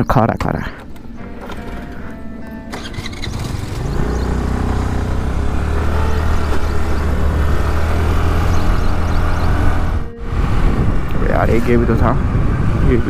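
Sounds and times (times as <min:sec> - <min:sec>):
motorbike engine pulling away: 0:01.3 - 0:13.0.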